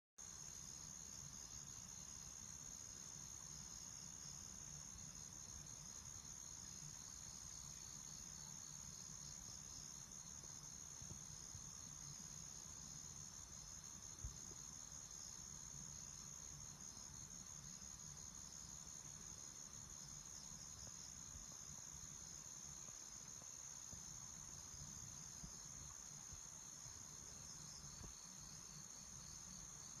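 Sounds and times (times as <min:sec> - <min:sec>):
insects trilling at night: 0:00.2 - 0:30.0.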